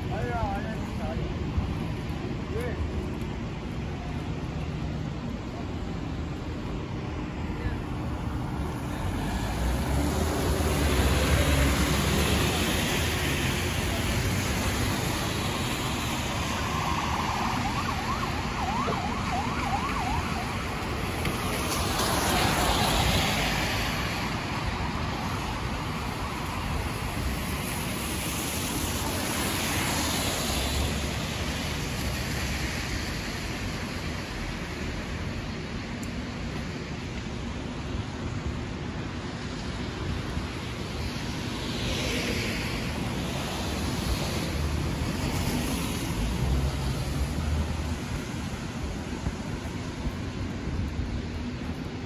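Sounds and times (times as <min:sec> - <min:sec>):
cars swishing on wet pavement: 0:00.0 - 0:52.0
traffic rumble: 0:00.0 - 0:52.0.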